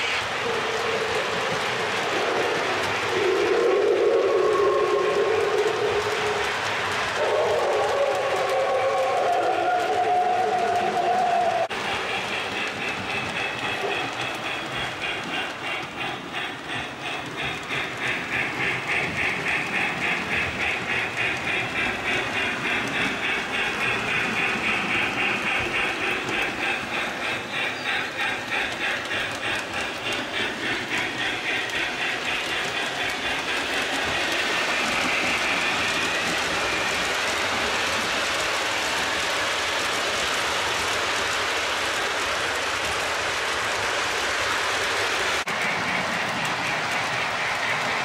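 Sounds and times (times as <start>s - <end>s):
model train cars rolling: 0.0s - 48.0s
model train chuffing and clattering: 0.0s - 48.0s.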